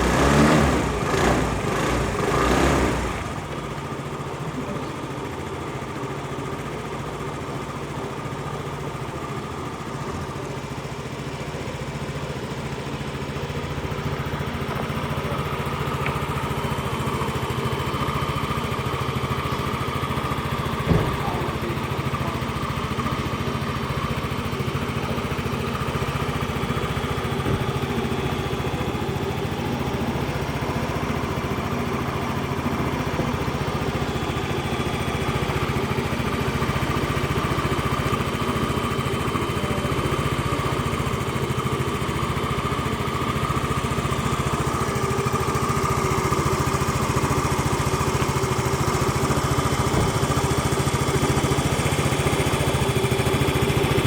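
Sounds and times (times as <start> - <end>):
scooter engine idling: 0.0 - 54.0.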